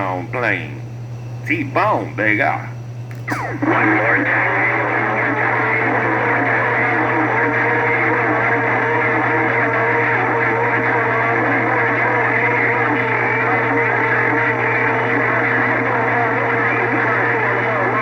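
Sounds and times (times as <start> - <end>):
overlapping radio transmissions: 0.0 - 18.0
low hum: 2.7 - 18.0.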